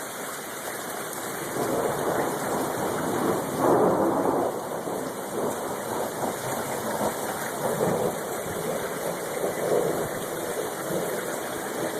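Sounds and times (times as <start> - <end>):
sleet and rain falling: 0.0 - 11.9.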